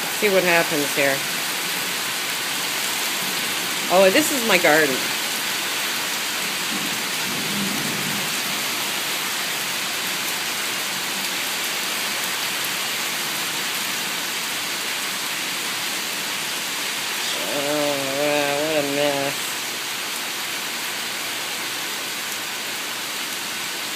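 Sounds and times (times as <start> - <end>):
rain shower hissing: 0.0 - 23.9.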